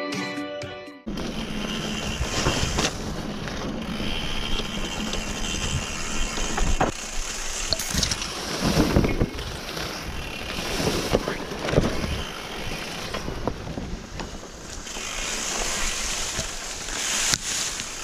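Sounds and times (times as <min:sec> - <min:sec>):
bike knocks and rattles: 0:01.1 - 0:18.0
bike tyres on dirt trail: 0:01.1 - 0:18.0
wind on microphone: 0:01.1 - 0:18.0.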